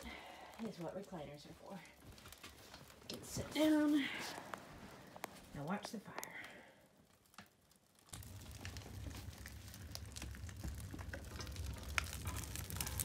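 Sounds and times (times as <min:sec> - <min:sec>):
fire crackling in wood stove: 0:00.0 - 0:13.0.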